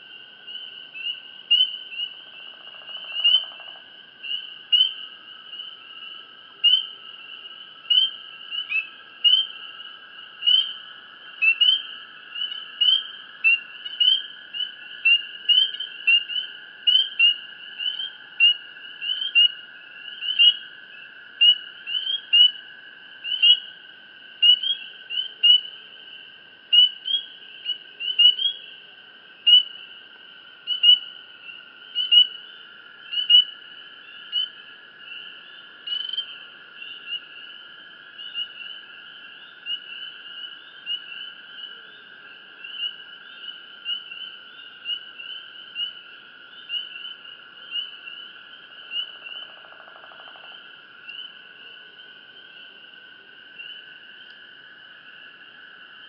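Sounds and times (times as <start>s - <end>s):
crickets trilling: 0.0s - 56.0s
rising cricket chirps: 0.0s - 56.0s.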